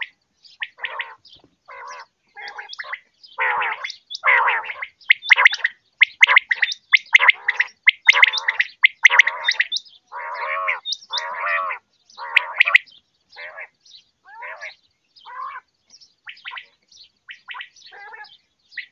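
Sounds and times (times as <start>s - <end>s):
quail calling: 0.0s - 18.9s.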